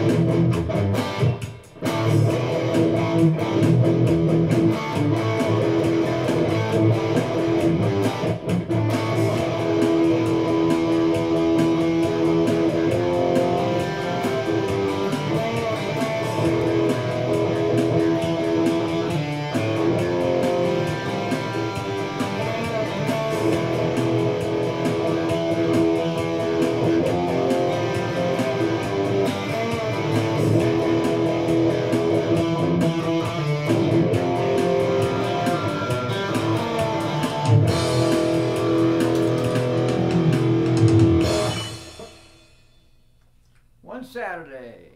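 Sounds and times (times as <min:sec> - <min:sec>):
electric guitar playing chords: 0:00.0 - 0:42.5.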